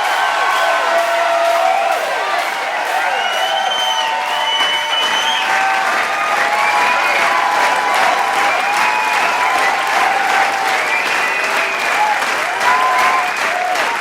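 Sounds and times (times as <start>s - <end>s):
crowd applauding: 0.0s - 14.0s
voices cheering and whooping: 0.0s - 14.0s.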